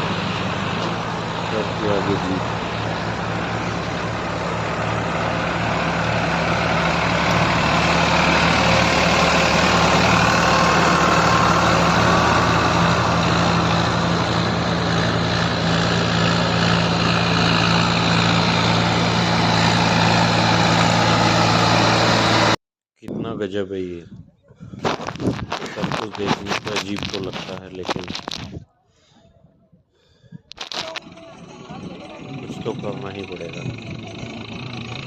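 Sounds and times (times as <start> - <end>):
tractor engine running: 0.0 - 22.6, 24.8 - 28.6, 30.5 - 35.0.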